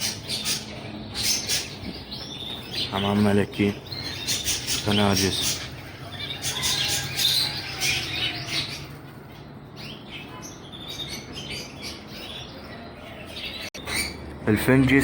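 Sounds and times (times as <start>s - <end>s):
caged birds chirping and squawking: 0.0s - 15.0s.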